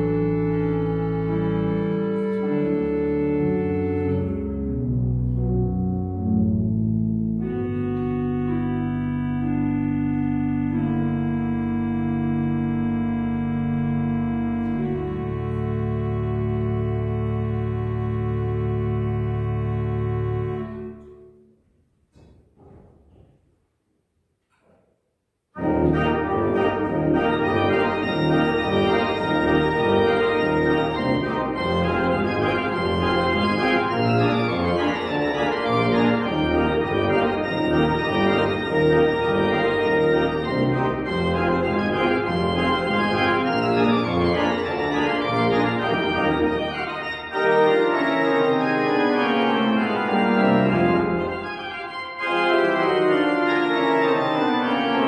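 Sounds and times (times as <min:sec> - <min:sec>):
pipe organ playing chords: 0:00.0 - 0:21.5, 0:25.6 - 0:55.0.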